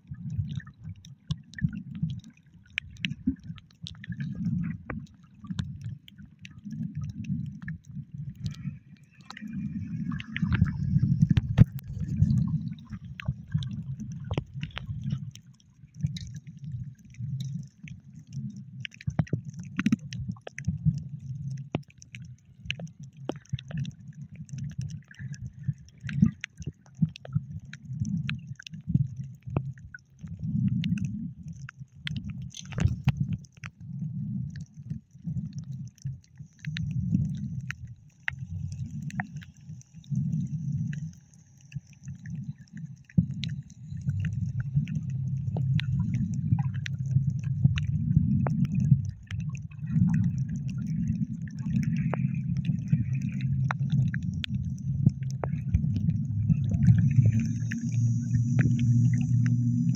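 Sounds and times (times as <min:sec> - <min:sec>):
low uneven rumble: 0:00.0 - 0:59.9
muffled water sloshing underwater: 0:00.0 - 0:59.9.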